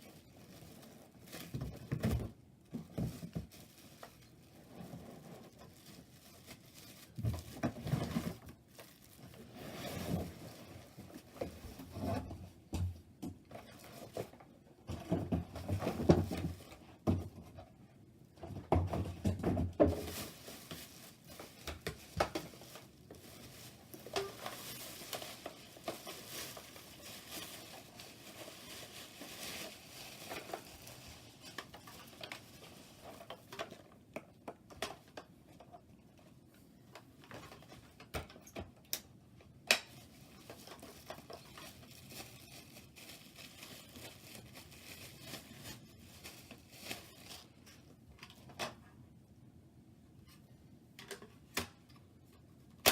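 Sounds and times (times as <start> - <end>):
packaging and plastic handled: 0.0 - 12.7, 18.5 - 48.8.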